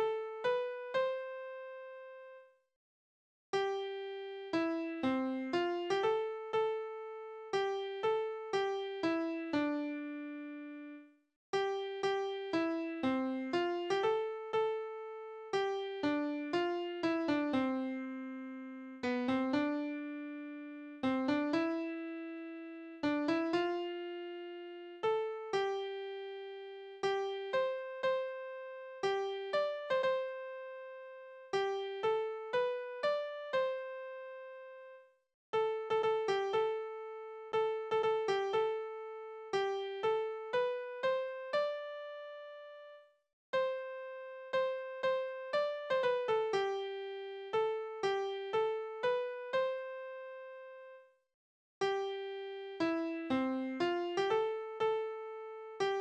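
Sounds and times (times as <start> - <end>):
software piano melody: 0.0 - 2.4, 3.5 - 11.0, 11.6 - 35.0, 35.6 - 43.0, 43.6 - 51.0, 51.8 - 56.0.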